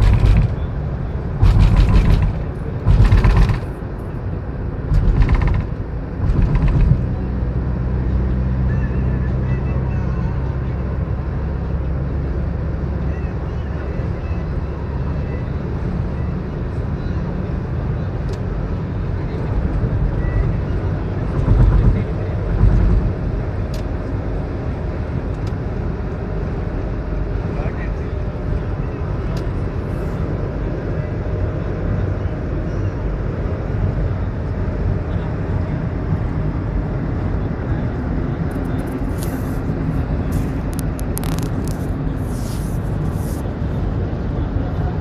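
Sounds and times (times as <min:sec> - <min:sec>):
road and engine rumble: 0:00.0 - 0:45.0.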